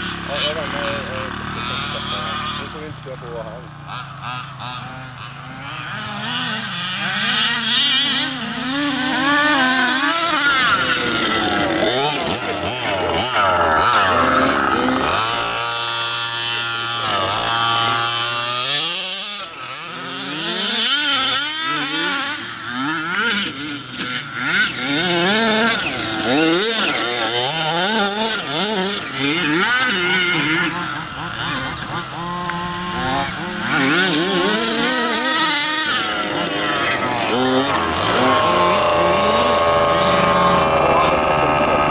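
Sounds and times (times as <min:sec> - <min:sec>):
small two-stroke engines revving: 0:00.0 - 0:41.9.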